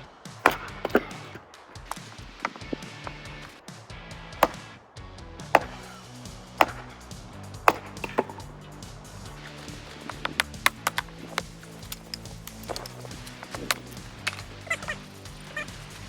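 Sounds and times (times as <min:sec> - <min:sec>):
background music: 0:00.0 - 0:16.0
axe chopping firewood: 0:00.3 - 0:03.8, 0:04.4 - 0:04.7, 0:05.4 - 0:16.0.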